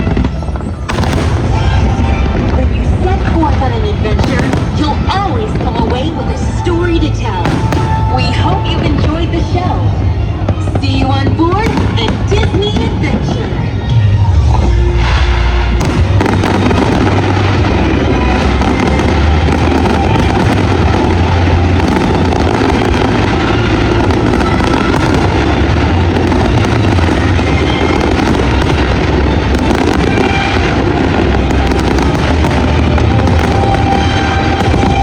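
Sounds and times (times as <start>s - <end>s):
fireworks booming: 0.0s - 35.0s
fireworks crackling: 0.0s - 35.0s.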